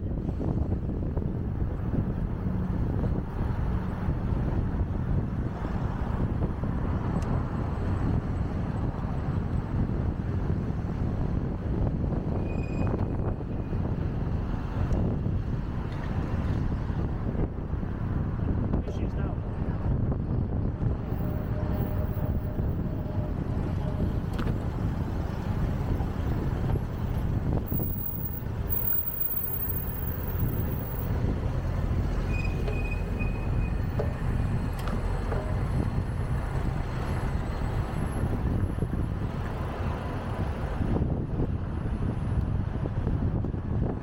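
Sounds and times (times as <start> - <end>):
passing cars rumbling: 0.0 - 44.0.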